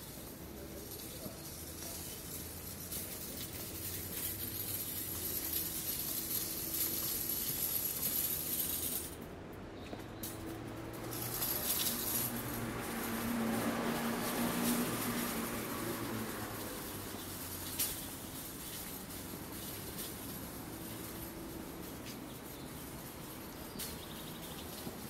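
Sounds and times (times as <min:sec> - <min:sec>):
traffic hiss: 0:00.0 - 0:25.0.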